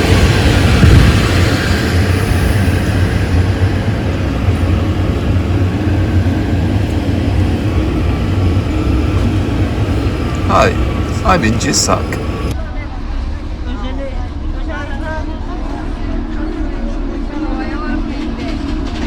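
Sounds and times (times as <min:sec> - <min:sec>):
train carriage rumbling on rails: 0:00.0 - 0:19.0.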